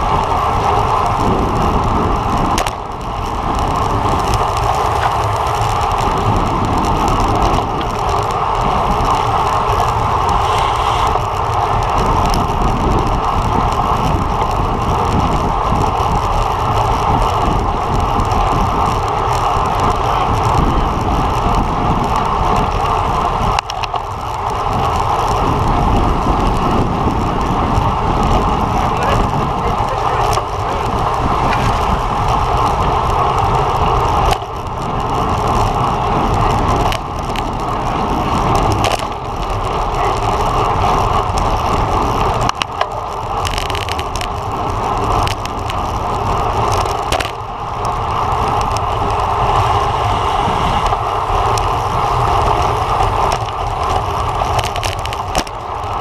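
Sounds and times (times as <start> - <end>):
tyres humming on road: 0.0 - 56.0
wind rushing over microphone: 0.0 - 56.0.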